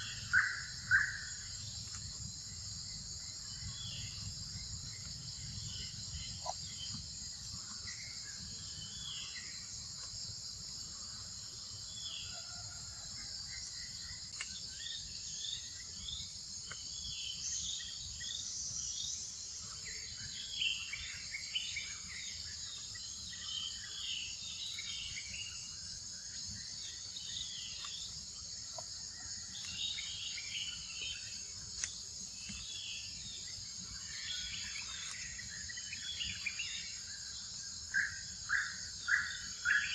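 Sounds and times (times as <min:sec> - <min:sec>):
short insect chirps: 0:00.0 - 0:10.9, 0:13.6 - 0:39.9
high-pitched insect chorus: 0:00.0 - 0:39.9.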